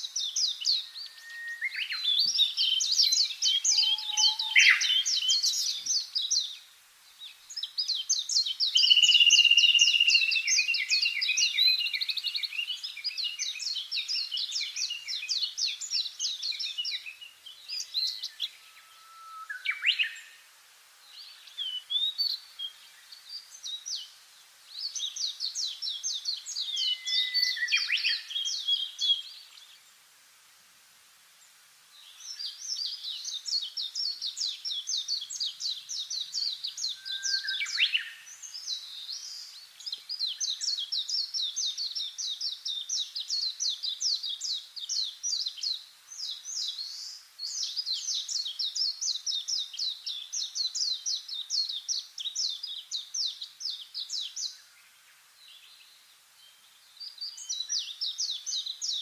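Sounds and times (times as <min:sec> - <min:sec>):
songbirds singing trills: 0:00.0 - 0:30.1, 0:31.4 - 0:59.0.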